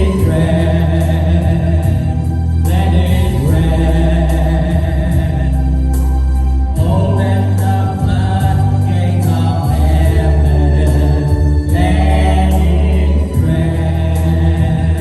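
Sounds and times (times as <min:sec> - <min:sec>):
group singing: 0:00.0 - 0:06.1, 0:06.8 - 0:15.0
band with bass and cymbals: 0:00.0 - 0:15.0.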